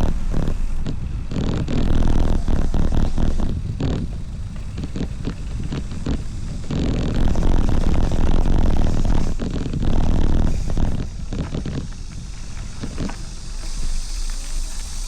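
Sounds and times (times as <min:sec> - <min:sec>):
bike rattling and clattering: 0:00.0 - 0:15.0
wind buffeting microphone: 0:00.0 - 0:15.0.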